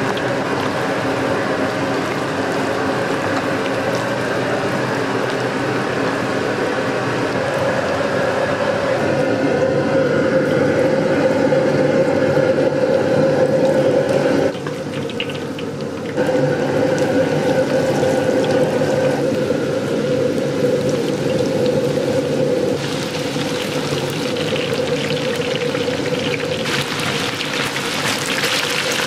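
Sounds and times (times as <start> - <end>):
kitchen roar: 0.0 - 29.0
oil sizzling in a wok: 0.0 - 29.0.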